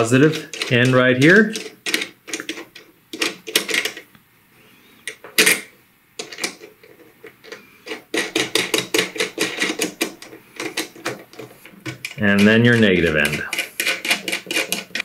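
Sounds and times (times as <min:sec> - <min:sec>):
metal terminal clicking and rattling: 0:00.0 - 0:04.1, 0:05.1 - 0:15.0.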